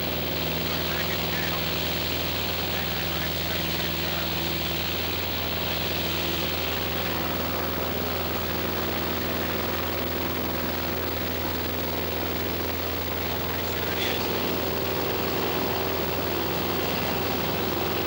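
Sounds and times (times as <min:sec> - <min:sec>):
light aircraft engine drone: 0:00.0 - 0:18.0.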